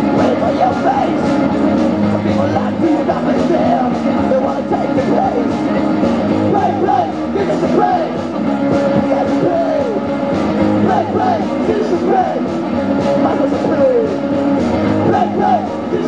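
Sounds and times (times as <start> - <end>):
electric guitars: 0.0 - 16.0
live rock band playing: 0.0 - 16.0
steady drum beat: 0.0 - 16.0.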